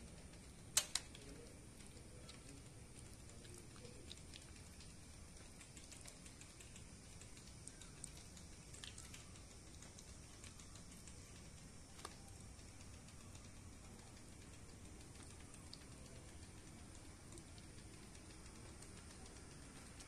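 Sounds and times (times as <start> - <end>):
light clicks: 0.1 - 20.0.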